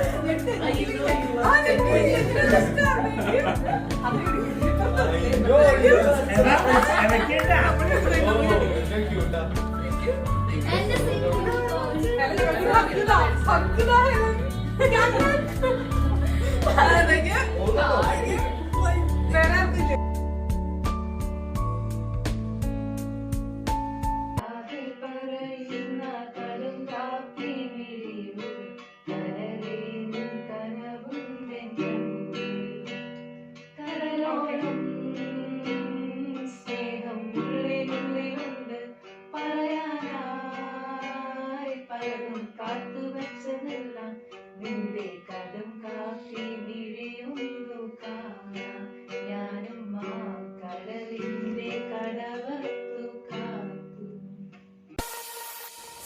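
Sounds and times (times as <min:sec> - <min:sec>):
person singing: 0:00.0 - 0:20.0, 0:24.4 - 0:32.6, 0:33.8 - 0:56.0.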